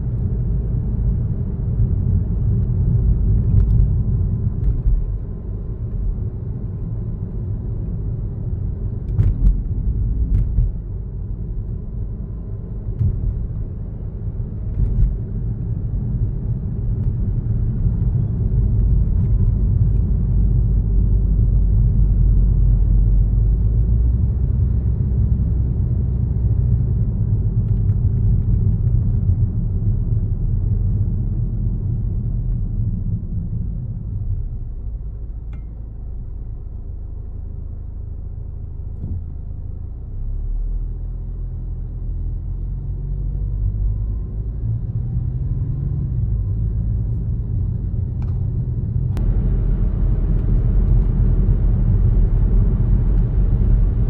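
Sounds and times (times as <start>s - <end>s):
car driving on road: 0.0s - 54.0s.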